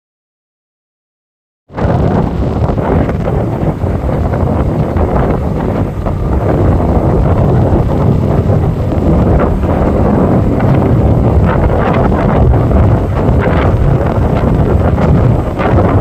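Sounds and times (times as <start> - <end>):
wind buffeting microphone: 1.7 - 16.0.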